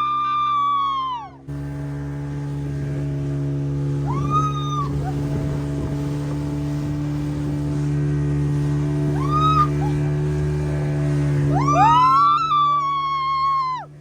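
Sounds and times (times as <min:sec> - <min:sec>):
motorboat engine running: 0:00.0 - 0:14.0.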